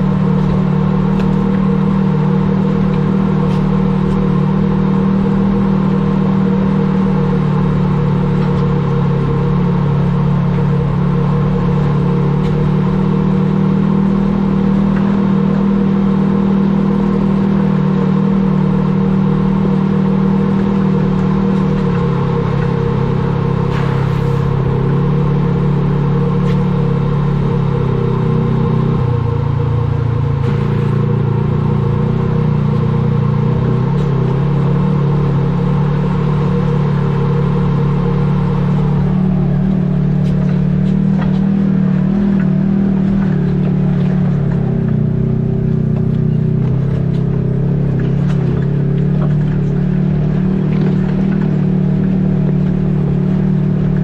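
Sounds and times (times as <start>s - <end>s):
vehicle engine droning: 0.0s - 54.0s.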